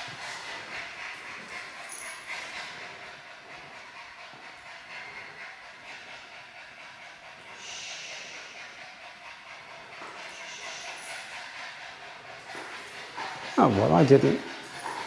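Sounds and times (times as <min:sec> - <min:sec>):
dog panting heavily: 0:00.0 - 0:15.0.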